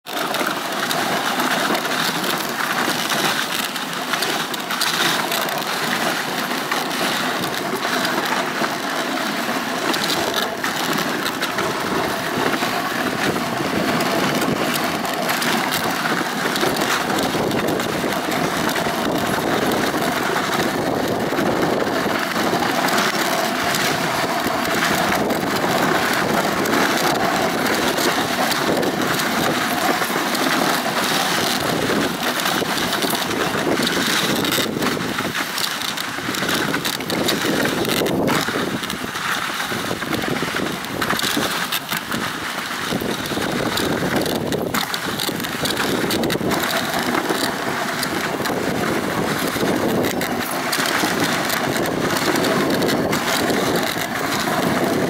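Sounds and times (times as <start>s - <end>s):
sled runners sliding over snow: 0.0s - 55.0s.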